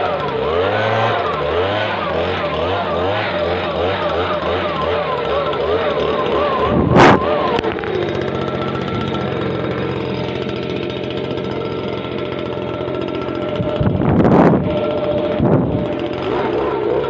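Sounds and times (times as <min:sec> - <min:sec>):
leaf blower engine running: 0:00.0 - 0:17.0.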